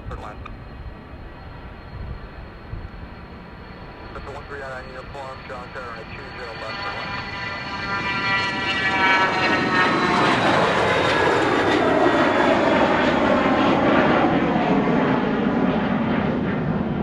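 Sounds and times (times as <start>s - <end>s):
airplane engines roaring: 0.0s - 17.0s.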